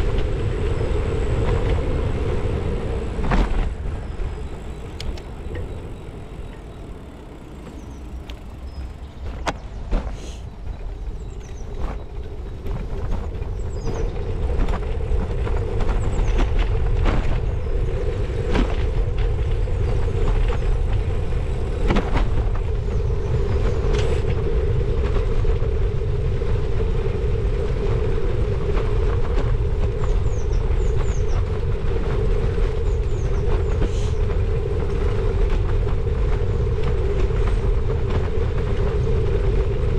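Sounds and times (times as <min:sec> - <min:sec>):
bicycle clicks and rattles: 0:00.0 - 0:39.9
bicycle tyre rumble: 0:00.0 - 0:39.9
wind buffeting microphone: 0:00.0 - 0:39.9.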